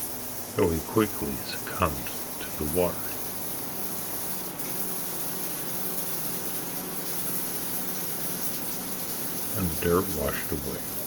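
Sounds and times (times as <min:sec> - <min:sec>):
running water hissing: 0:00.0 - 0:11.0.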